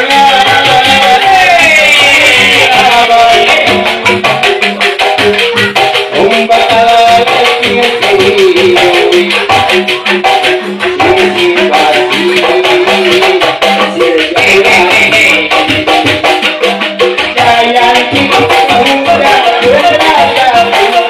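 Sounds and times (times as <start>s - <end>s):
bamboo rattles playing melody: 0.0s - 21.0s.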